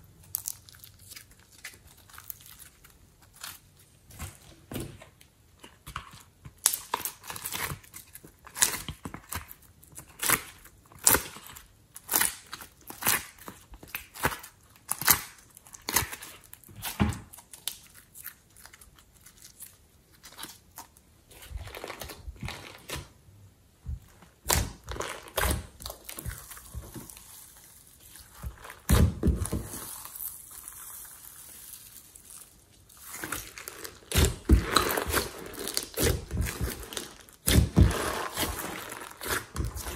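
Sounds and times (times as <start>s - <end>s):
slime clicking and squelching: 5.2s - 23.1s, 24.0s - 39.9s.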